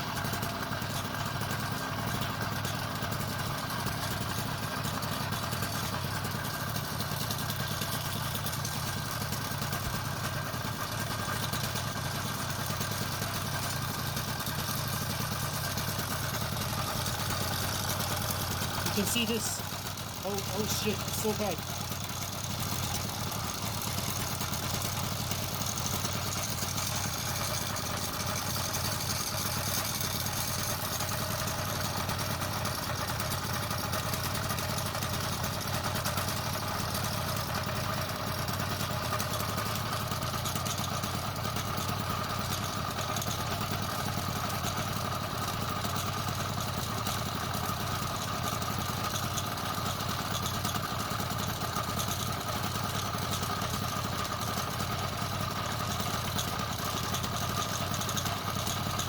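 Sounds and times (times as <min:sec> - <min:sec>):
small engine running steadily: 0:00.0 - 0:59.0
rattling bicycle chain: 0:00.1 - 0:59.0.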